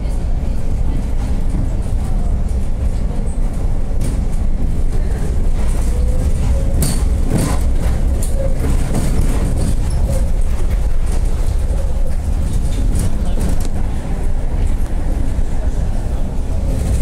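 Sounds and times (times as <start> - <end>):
tram rumbling: 0.0 - 17.0.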